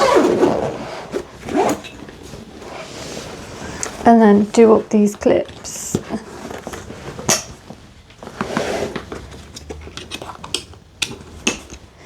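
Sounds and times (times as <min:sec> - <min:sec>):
fabric bag rustling: 0:00.0 - 0:12.0.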